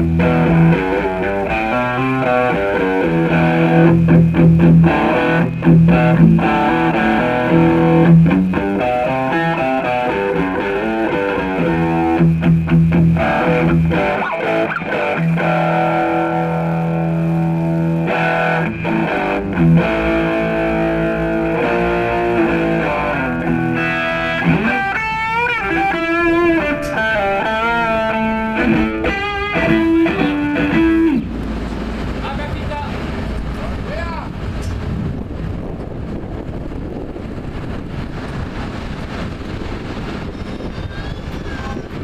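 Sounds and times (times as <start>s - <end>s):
distorted electric guitar: 0.0s - 42.0s.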